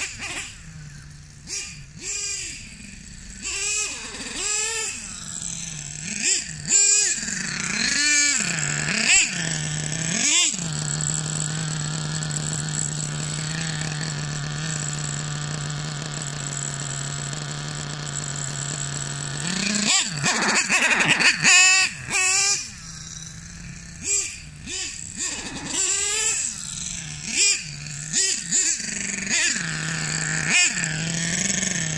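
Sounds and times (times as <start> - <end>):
nitro engine revving and idling: 0.0 - 31.9.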